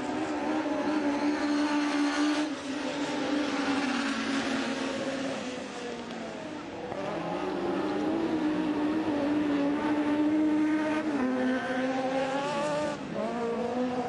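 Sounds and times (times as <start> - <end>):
race car engine at full throttle: 0.0 - 14.0.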